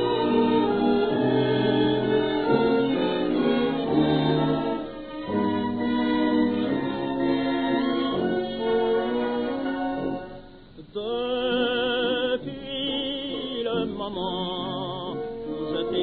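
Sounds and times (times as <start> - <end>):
muffled orchestral music: 0.0 - 16.0.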